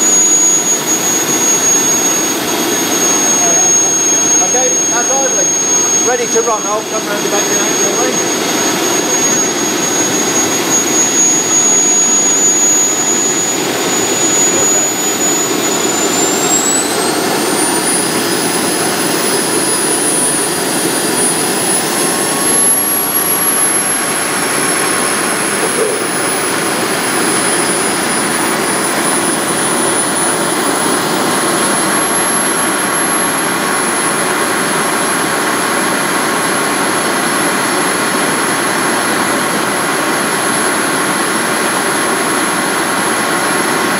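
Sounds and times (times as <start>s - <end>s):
gas turbine whining: 0.0s - 43.9s.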